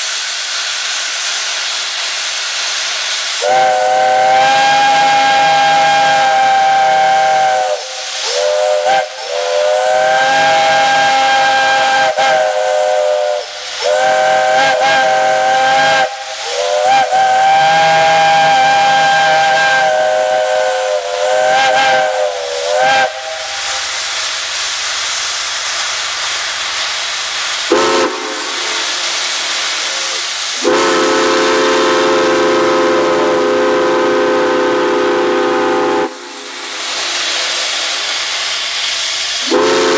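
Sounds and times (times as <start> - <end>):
steam locomotive chime whistle: 0.0 - 24.6, 27.5 - 38.1, 39.4 - 39.9
steam hissing: 0.0 - 39.9.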